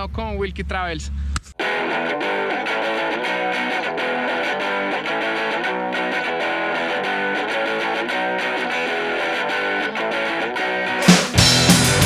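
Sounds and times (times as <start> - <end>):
distorted guitar music: 1.6 - 12.0.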